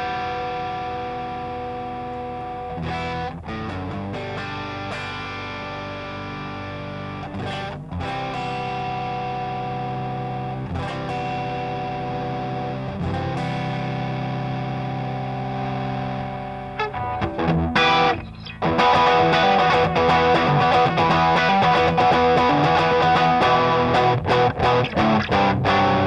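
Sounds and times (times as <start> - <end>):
distorted electric guitar chords: 0.0 - 26.0.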